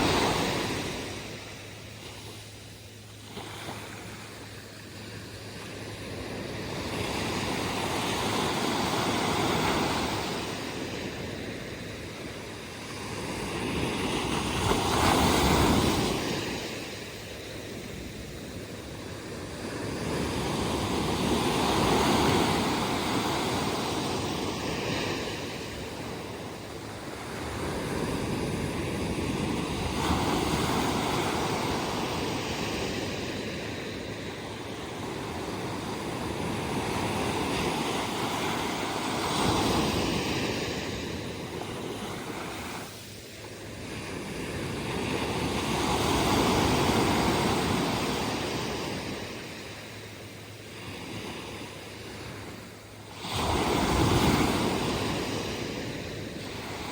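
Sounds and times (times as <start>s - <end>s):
waves breaking on shore: 0.0s - 56.9s.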